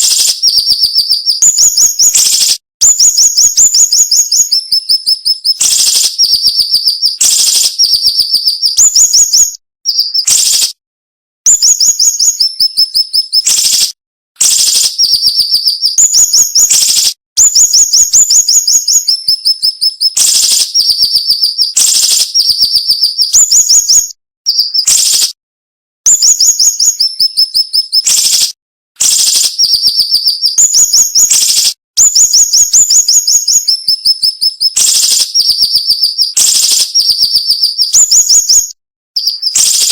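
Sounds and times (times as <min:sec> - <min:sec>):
bird singing high-pitched notes: 0:00.0 - 0:10.8, 0:11.5 - 0:25.4, 0:26.1 - 0:39.9.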